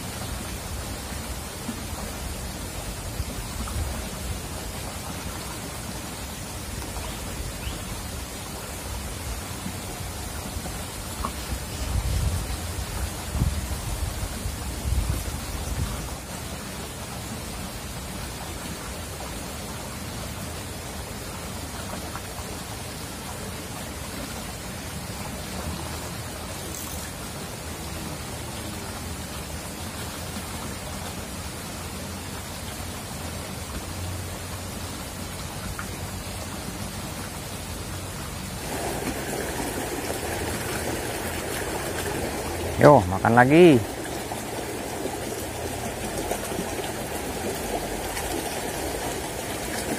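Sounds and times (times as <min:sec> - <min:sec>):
stream running over stones: 0:00.0 - 0:49.9.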